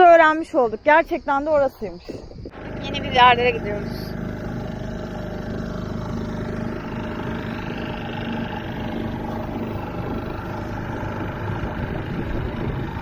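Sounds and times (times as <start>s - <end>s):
outboard motor running: 2.5s - 13.0s
water washing along hull: 2.5s - 13.0s.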